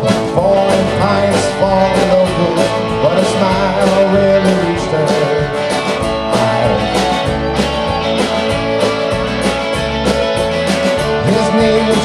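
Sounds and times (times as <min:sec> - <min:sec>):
guitars strumming: 0:00.0 - 0:12.0
steady drum beat: 0:00.0 - 0:12.0.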